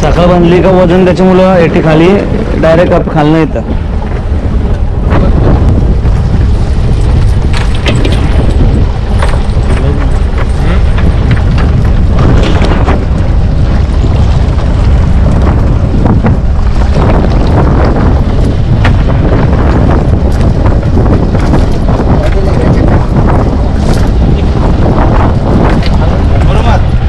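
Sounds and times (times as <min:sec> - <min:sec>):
boat engine running: 0:00.0 - 0:27.0
wind buffeting microphone: 0:00.0 - 0:27.0.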